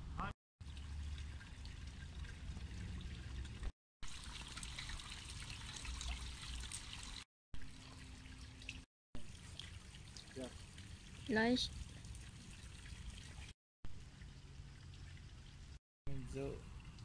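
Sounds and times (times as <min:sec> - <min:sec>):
water trickling over stones: 0:00.6 - 0:17.0.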